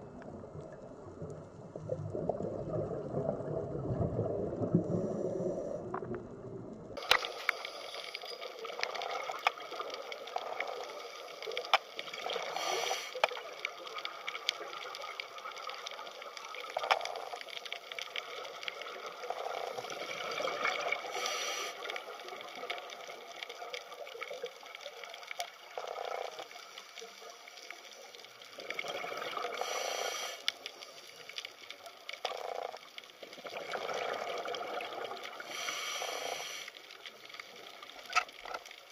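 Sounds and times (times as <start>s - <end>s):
bubbling: 0.0s - 27.0s, 27.9s - 30.6s, 31.2s - 36.2s
underwater rushing: 0.0s - 38.9s
fizzy crackle of tiny clicks: 7.0s - 38.9s.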